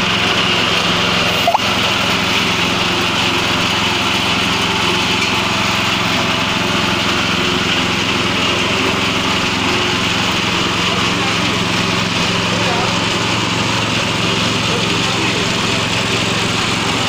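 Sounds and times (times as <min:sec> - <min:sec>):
petrol engine running steadily: 0:00.0 - 0:17.0.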